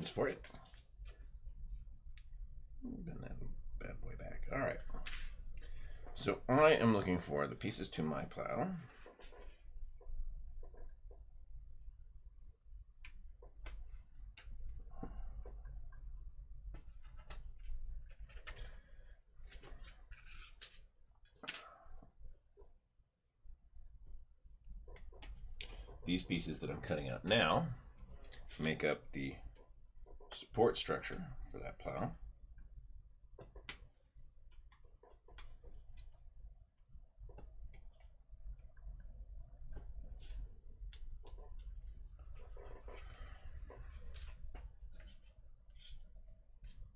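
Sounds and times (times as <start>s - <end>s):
low steady hum: 0.0s - 46.9s.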